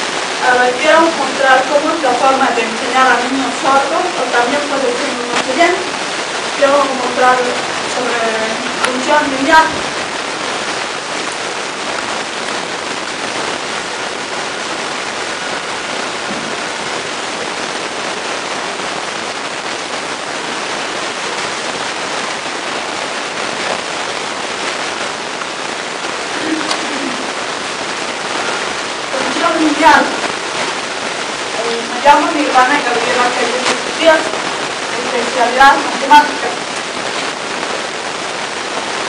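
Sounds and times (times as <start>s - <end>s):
steady room noise hiss: 0.0s - 39.0s.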